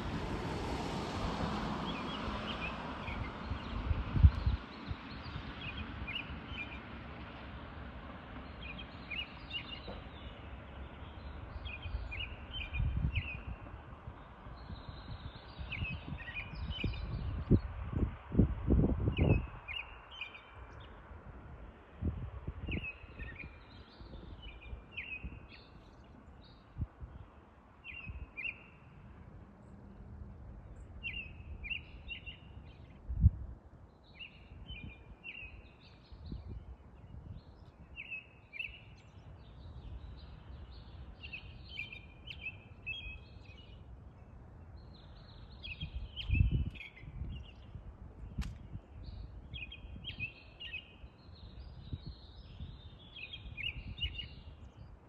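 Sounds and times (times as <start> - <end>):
songbirds chirping: 0.4 - 55.0.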